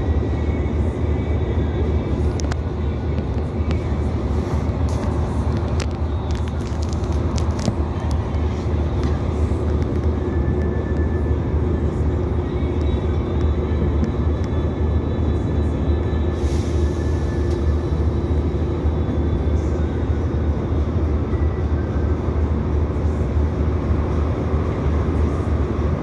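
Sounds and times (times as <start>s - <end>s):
diesel railcar engine drone: 0.0s - 26.0s.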